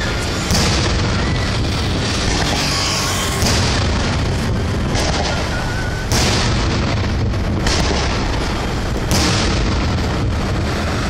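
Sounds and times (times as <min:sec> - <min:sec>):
continuous rumble: 0:00.0 - 0:11.0
firework shells booming: 0:00.1 - 0:10.8.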